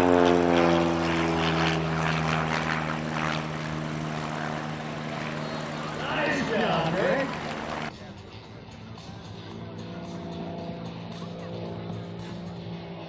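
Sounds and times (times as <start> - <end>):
propeller airplane engine passing: 0.0 - 13.0.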